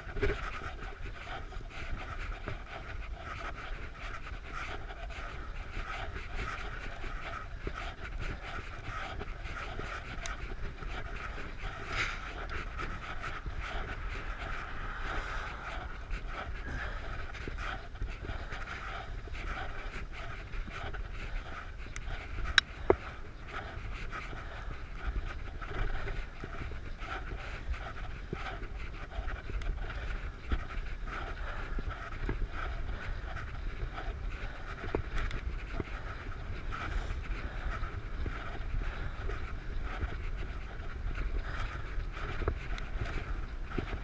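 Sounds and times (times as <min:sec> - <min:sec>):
cyclist breathing hard: 0:00.0 - 0:44.0
wind and tyres on road: 0:00.0 - 0:44.0.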